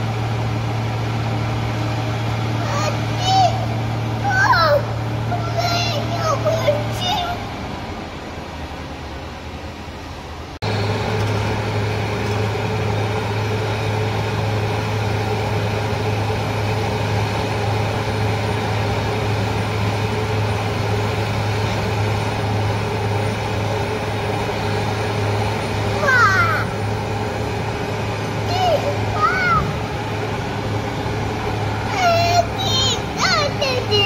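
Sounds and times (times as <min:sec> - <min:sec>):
low engine drone: 0:00.0 - 0:34.0.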